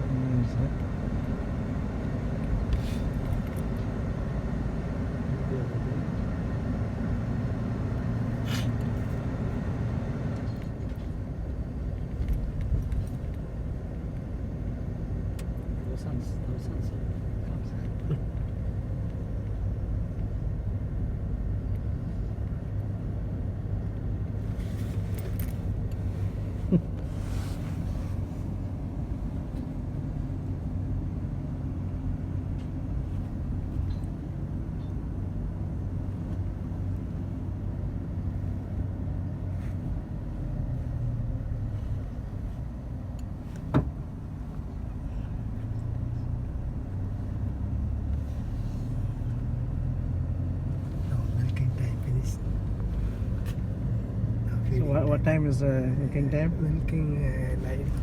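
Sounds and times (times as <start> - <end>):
vehicle engine low rumble: 0.0 - 58.0.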